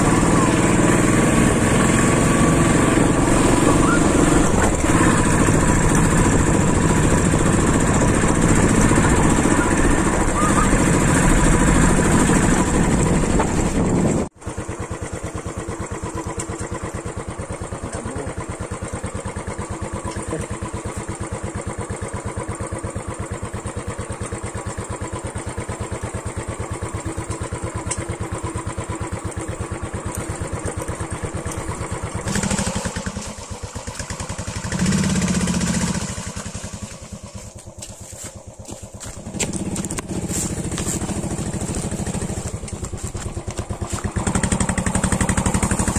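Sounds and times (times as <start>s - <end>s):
motorcycle engine thumping: 2.9s - 45.9s.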